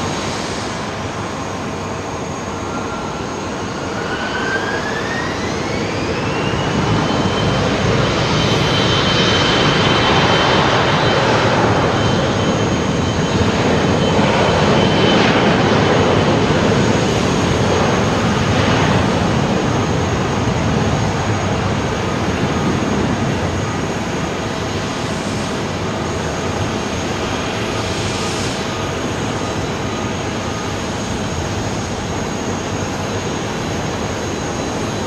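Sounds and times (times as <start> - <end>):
jet engines spooling up: 0.0 - 35.0.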